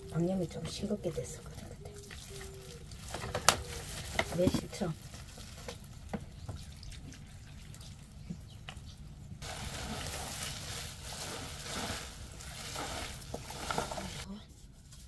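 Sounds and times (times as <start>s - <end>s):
hand tossing greens rustling: 0.0s - 15.0s.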